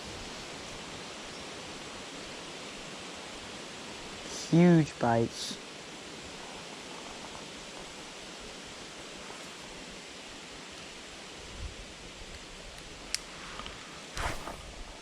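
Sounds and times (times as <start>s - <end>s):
flowing creek water: 0.0s - 12.2s.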